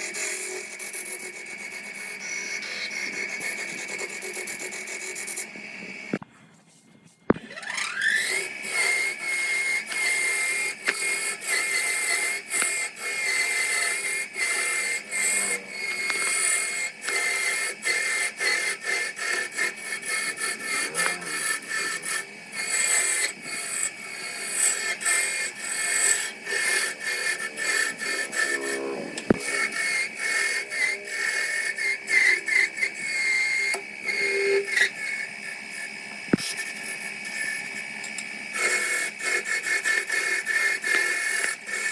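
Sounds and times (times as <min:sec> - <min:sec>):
power tool motor whining: 0:00.0 - 0:06.2, 0:07.3 - 0:41.9
tool scraping wood: 0:00.0 - 0:41.9.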